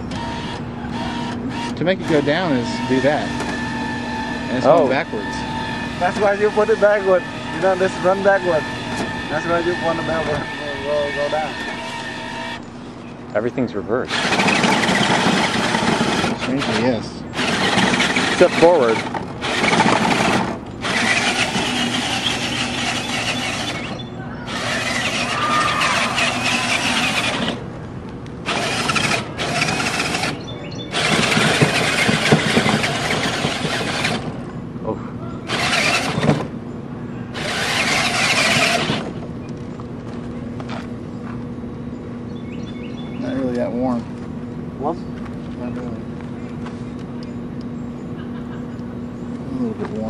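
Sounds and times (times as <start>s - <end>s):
electric drive motors running: 0.0s - 50.0s
steady low hum: 0.0s - 50.0s.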